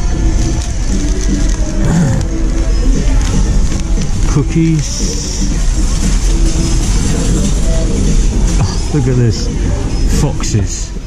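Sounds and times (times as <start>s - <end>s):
shop background music: 0.0s - 11.0s
supermarket ambience rumble: 0.0s - 11.0s.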